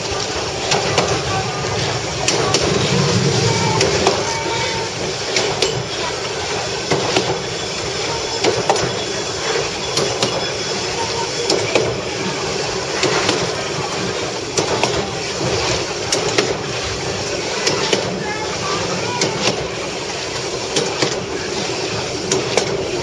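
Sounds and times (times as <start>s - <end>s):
railbus rumbling and rattling: 0.0s - 23.0s.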